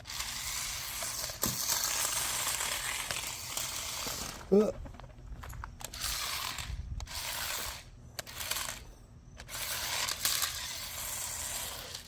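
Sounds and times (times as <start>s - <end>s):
toy car motors whirring: 0.0s - 4.6s, 5.8s - 12.0s.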